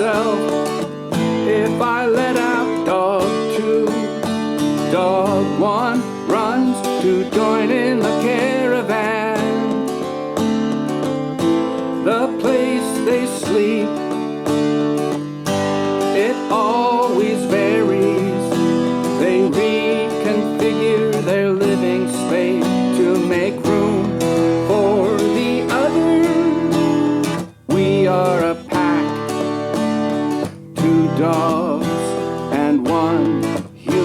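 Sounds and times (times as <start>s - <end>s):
strummed acoustic guitar: 0.0s - 34.0s.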